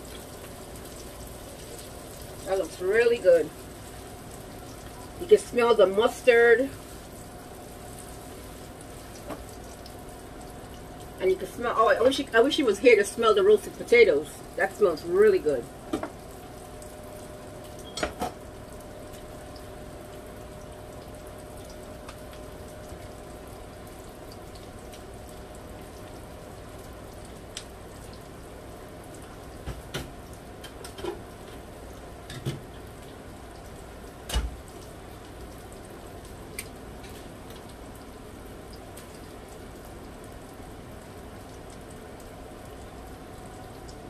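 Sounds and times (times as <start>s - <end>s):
fish sizzling in oil: 0.0s - 43.0s.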